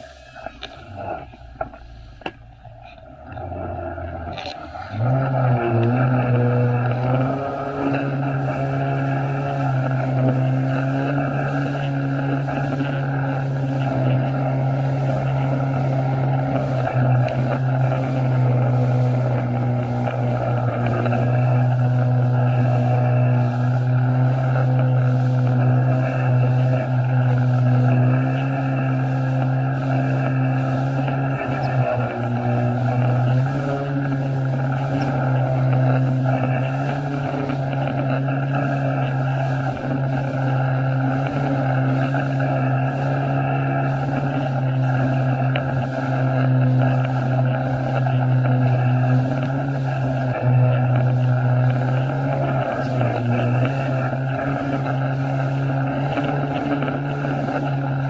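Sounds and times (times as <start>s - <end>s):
jet ski engine droning: 0.0s - 58.0s.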